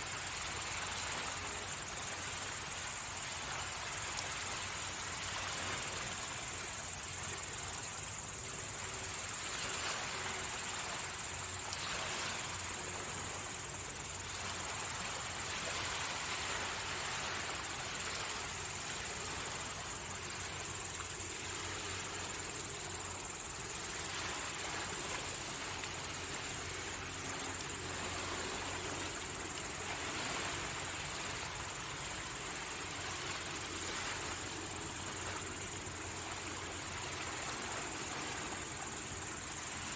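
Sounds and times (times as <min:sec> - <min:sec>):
high-pitched insect trill: 0:00.0 - 0:39.9
sea waves washing onto shore: 0:00.0 - 0:39.9.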